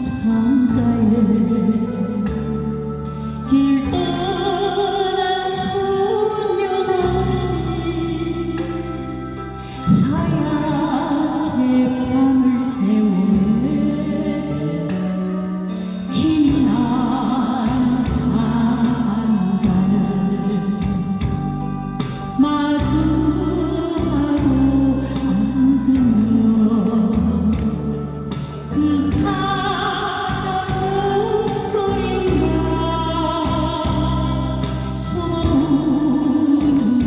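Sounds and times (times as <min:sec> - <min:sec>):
woman singing a slow ballad: 0:00.0 - 0:37.0.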